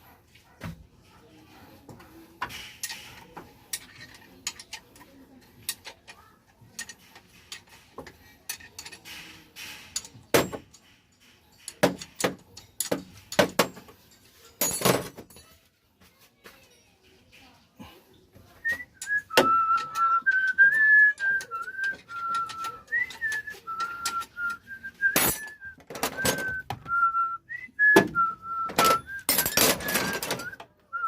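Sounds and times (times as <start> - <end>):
metal tools and engine parts clinking: 1.4 - 15.8, 16.6 - 30.7.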